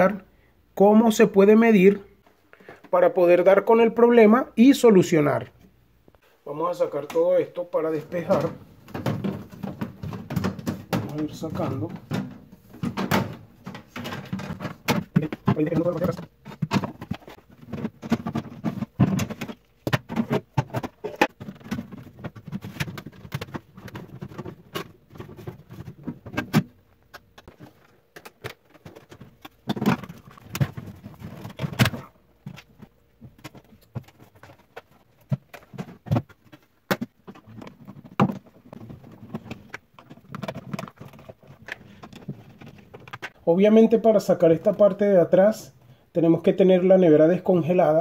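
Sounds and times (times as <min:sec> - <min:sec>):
plastic fridge parts clicking and rattling: 0:07.0 - 0:45.6.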